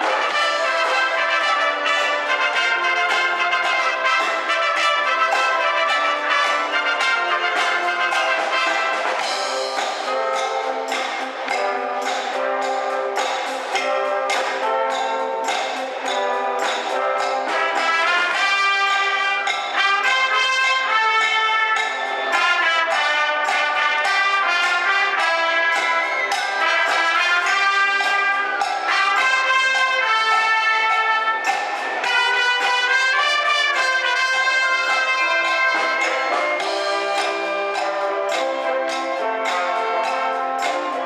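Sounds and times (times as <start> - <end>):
wind band playing melody: 0.0 - 41.0.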